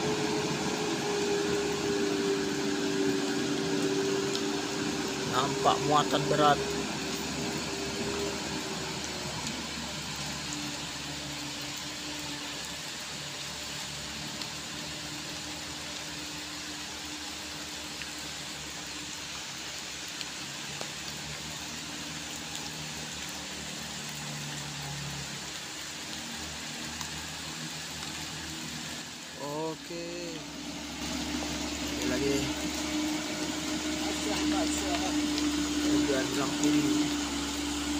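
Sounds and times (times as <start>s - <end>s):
diesel truck engine labouring: 0.0s - 20.0s, 20.6s - 37.9s
rain hissing: 0.0s - 37.9s.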